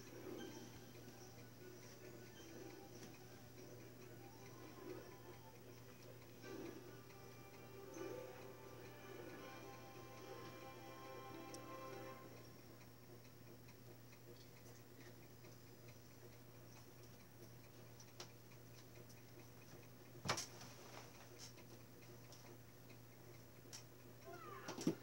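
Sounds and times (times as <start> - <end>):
steady low hum: 0.0 - 24.2.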